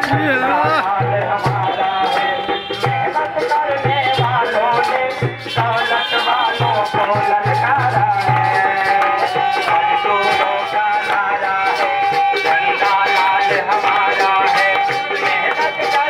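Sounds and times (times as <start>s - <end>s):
hand drum rhythm: 0.0s - 16.0s.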